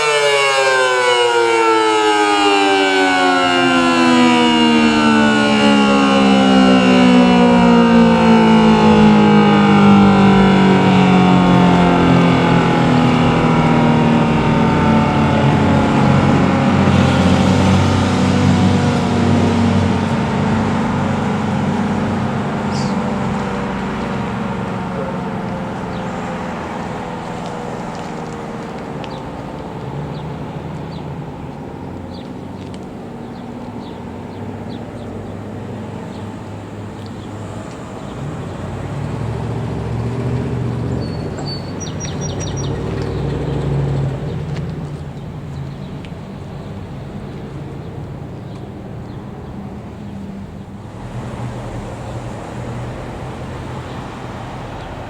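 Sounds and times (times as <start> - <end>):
warning siren winding down: 0.0 - 55.0
birds chirping faintly: 8.2 - 39.4, 40.8 - 55.0.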